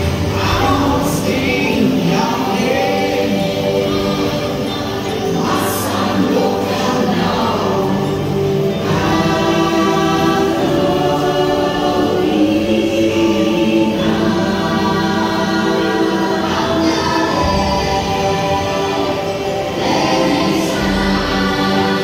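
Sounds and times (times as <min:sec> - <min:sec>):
choir singing over music: 0:00.0 - 0:22.0.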